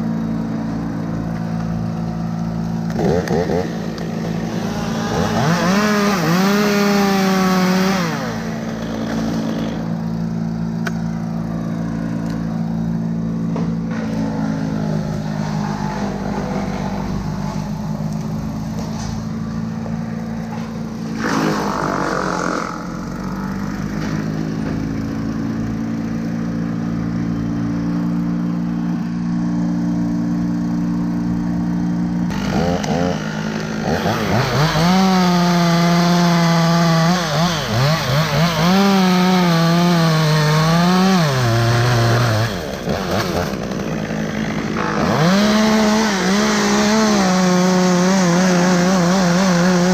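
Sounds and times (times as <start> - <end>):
chainsaw idling and revving: 0.0 - 49.9.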